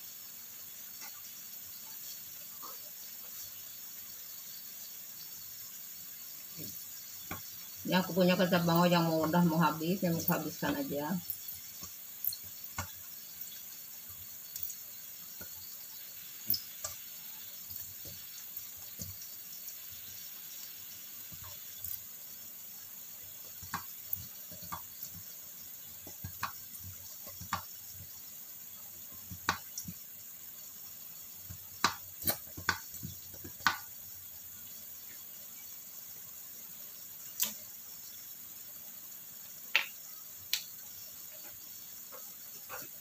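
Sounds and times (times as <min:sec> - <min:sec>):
sauce simmering with hiss and pops: 0:00.0 - 0:43.0.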